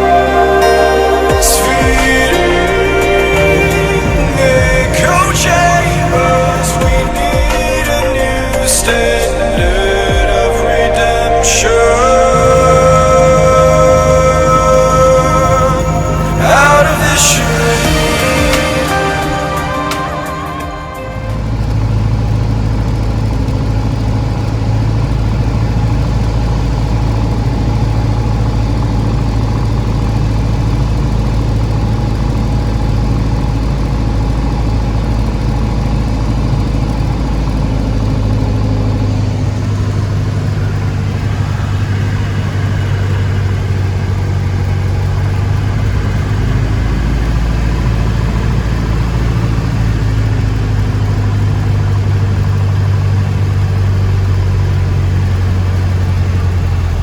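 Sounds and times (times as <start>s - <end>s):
aircraft propeller engine droning: 0.0s - 57.0s.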